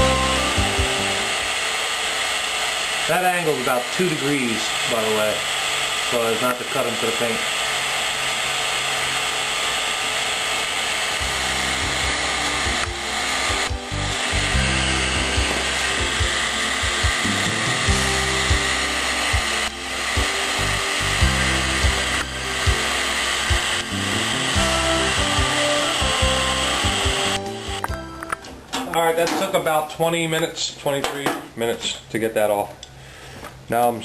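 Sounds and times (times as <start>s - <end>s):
heat gun blowing: 0.0s - 27.9s.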